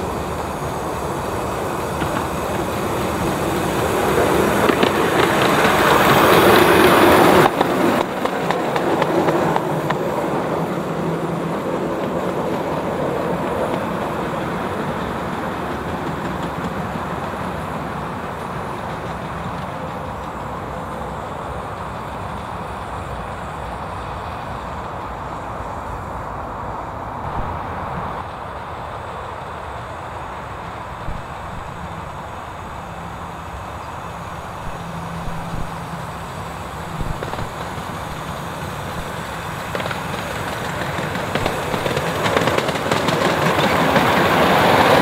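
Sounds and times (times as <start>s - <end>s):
miniature steam train rumbling: 0.0s - 45.0s.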